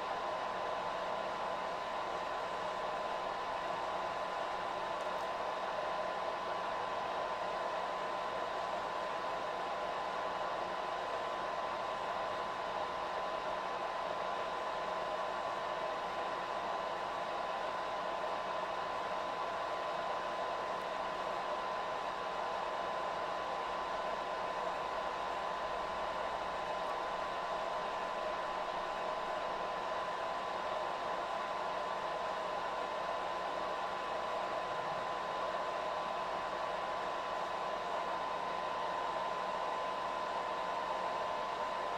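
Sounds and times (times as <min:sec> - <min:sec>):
projector fan and motor whirring: 0:00.0 - 0:41.9.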